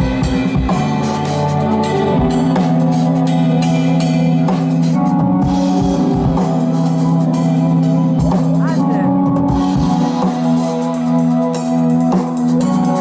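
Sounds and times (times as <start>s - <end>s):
drum kit beat: 0.0s - 13.0s.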